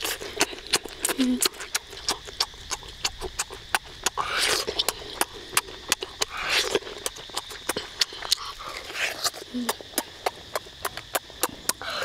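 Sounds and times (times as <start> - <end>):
boy chewing with lip smacks: 0.0 - 12.0
slurping meat: 0.0 - 12.0.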